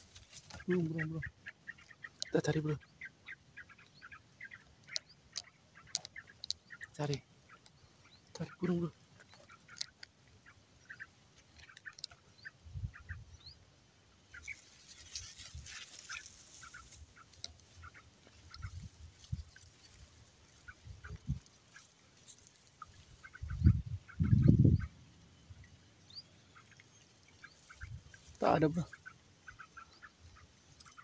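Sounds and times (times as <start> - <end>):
faint bird chirps: 0.0 - 31.0
rustling through vegetation: 0.0 - 31.0.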